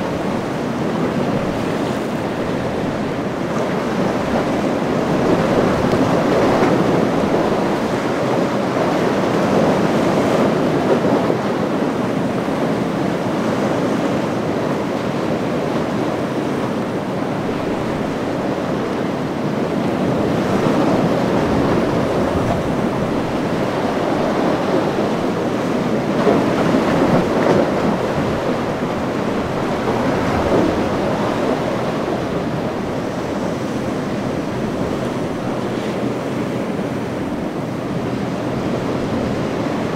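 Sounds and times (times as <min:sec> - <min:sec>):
breaking surf: 0:00.0 - 0:39.9
wind on microphone: 0:00.0 - 0:39.9.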